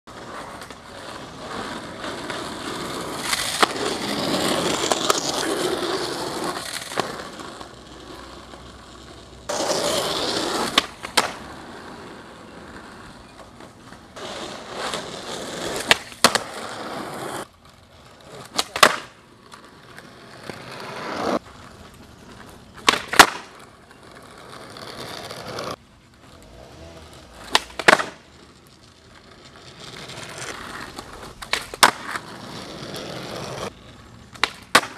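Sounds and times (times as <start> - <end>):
skateboard wheels rolling on asphalt: 0.0 - 34.9
skateboard tail clacking: 0.1 - 34.9.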